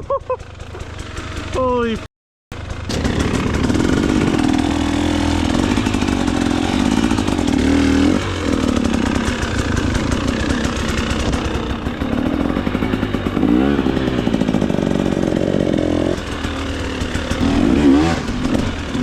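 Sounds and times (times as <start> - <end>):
dirt bike engine revving: 0.4 - 19.0.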